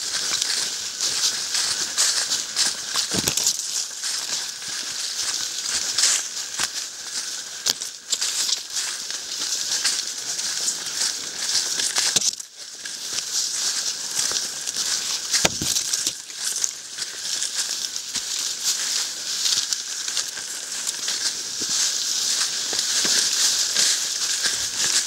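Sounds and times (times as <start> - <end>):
footsteps in dry leaves: 0.0 - 25.0.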